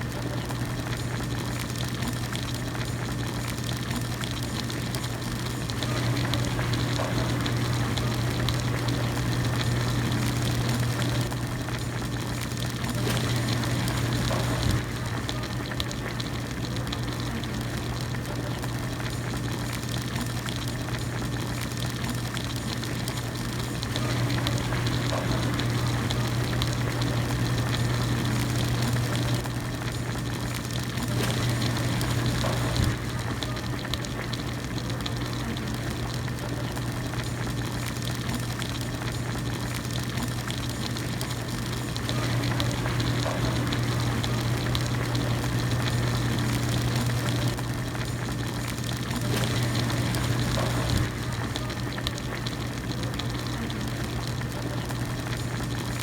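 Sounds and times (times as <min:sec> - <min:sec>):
broth bubbling at a rolling boil: 0:00.0 - 0:56.0.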